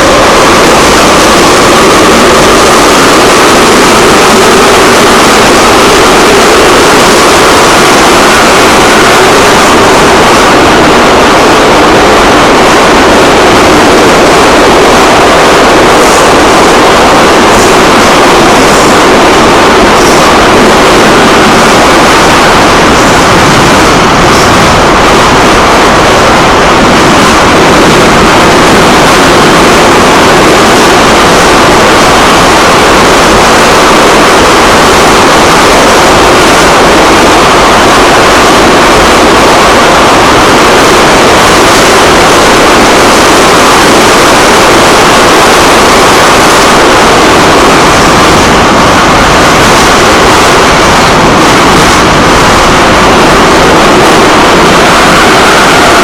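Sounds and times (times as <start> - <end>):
train rushing noise inside carriage: 0.0 - 56.0.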